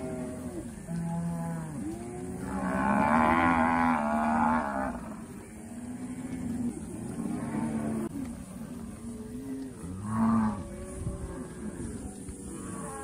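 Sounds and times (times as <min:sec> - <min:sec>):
cows mooing: 0:00.0 - 0:13.0.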